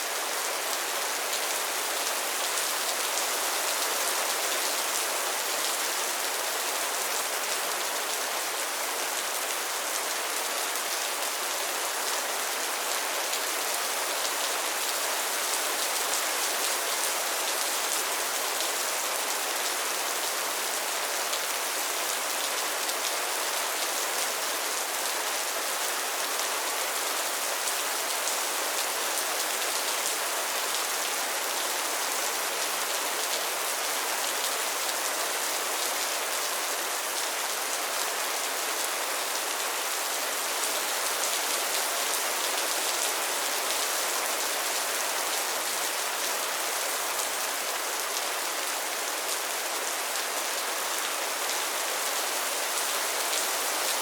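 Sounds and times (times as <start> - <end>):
rain falling on a pond: 0.0 - 54.0.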